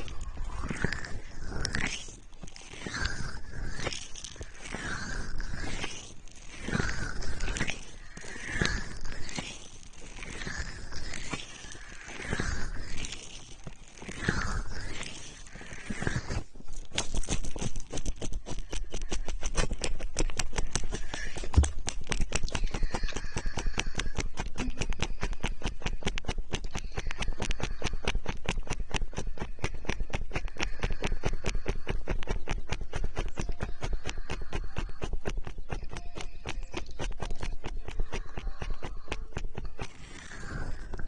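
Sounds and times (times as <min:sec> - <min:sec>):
wet clicking and squelching: 0:00.0 - 0:41.0.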